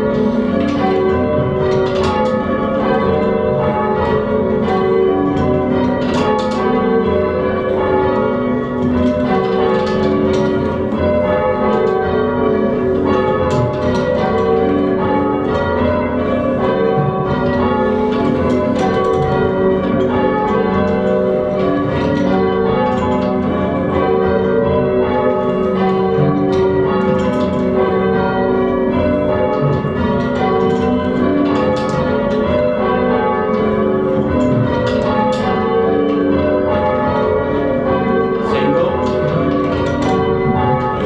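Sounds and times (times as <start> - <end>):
church bells change ringing: 0.0 - 41.0.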